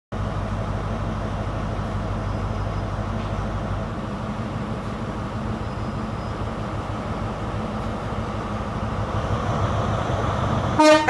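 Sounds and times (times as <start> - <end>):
diesel engine idling: 0.1 - 11.0.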